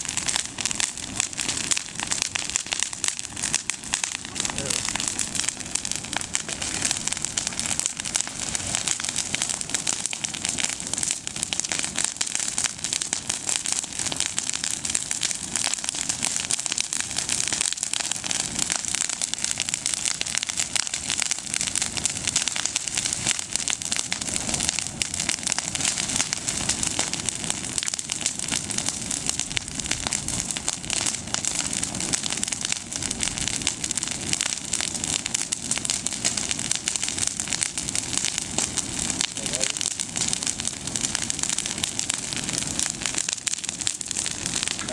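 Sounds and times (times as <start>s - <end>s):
bonfire crackling: 0.0s - 44.9s.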